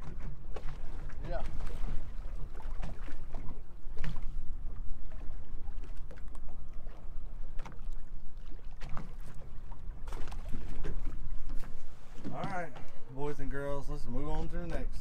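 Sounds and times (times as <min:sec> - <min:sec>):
water slapping boat hull: 0:00.0 - 0:15.0.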